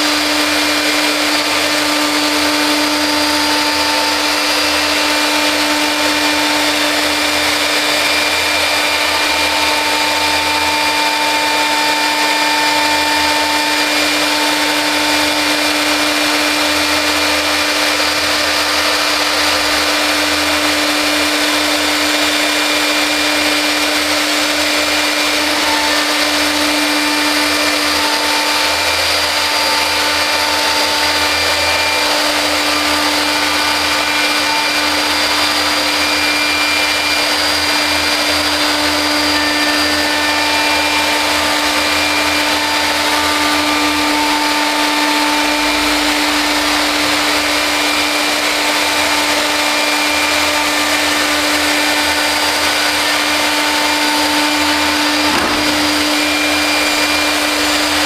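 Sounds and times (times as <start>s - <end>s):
milling spindle cutting wood: 0.0s - 58.0s.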